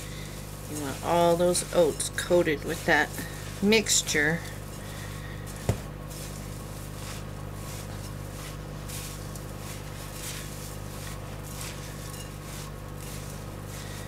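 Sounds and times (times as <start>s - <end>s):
spatula stirring oats in bowl: 0.0s - 14.0s
steady low hum: 0.0s - 14.0s.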